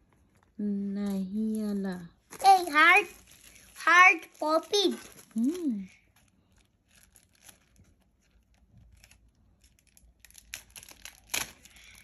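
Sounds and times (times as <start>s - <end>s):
plastic bag crinkling: 0.2s - 12.0s.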